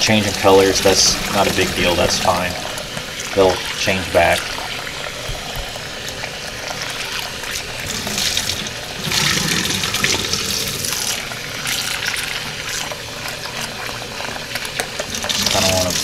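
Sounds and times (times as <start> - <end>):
faucet water splashing into bowl: 0.0 - 16.0.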